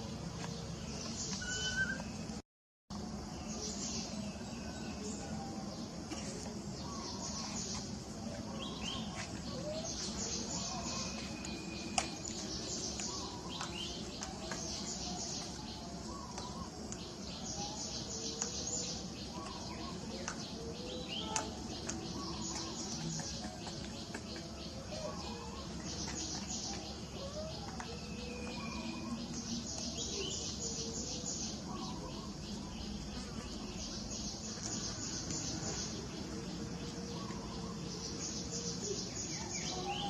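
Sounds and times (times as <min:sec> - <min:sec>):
small birds chirping: 0:00.0 - 0:02.4, 0:03.0 - 0:40.0
steady background hum: 0:00.0 - 0:40.0.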